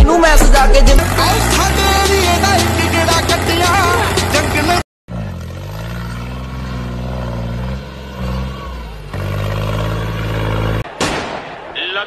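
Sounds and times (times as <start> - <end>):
tractor diesel engine running: 0.0 - 10.8.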